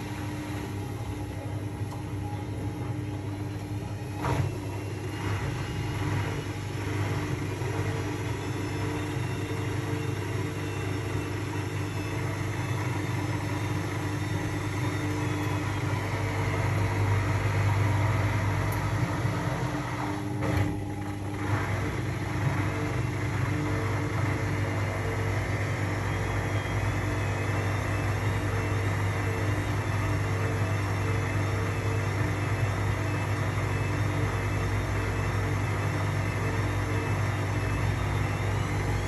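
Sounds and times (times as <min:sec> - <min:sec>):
washing machine spinning: 0:00.0 - 0:39.0.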